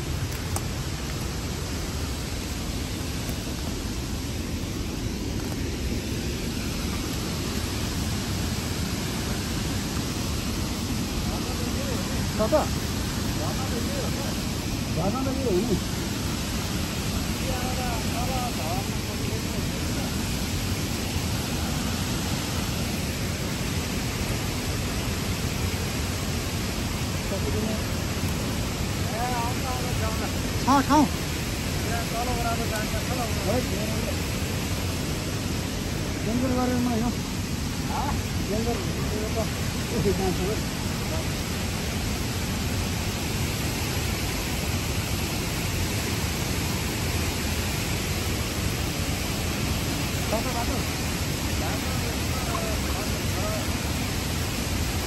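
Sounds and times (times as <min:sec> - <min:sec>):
fast-flowing water rushing: 0:00.0 - 0:55.0.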